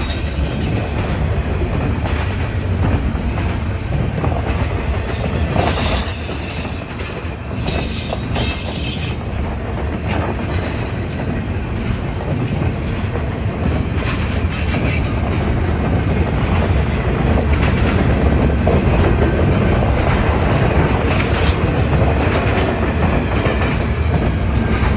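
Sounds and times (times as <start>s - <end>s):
train wheels rumbling on track: 0.0s - 24.9s.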